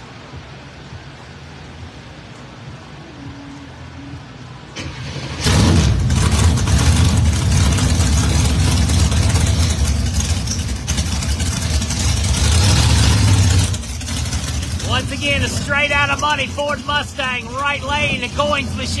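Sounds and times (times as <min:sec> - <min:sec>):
drag racing car engines: 0:00.0 - 0:19.0.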